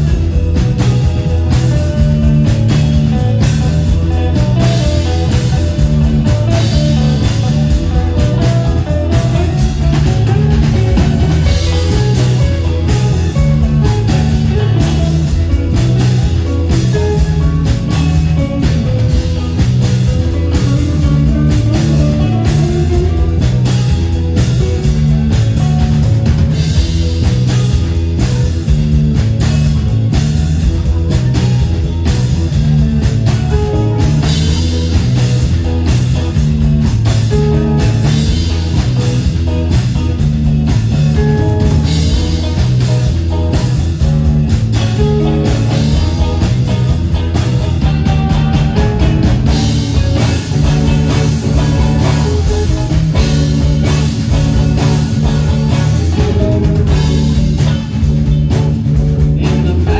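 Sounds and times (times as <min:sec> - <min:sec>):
drum hits: 0:00.0 - 0:59.9
live rock band playing: 0:00.0 - 0:59.9.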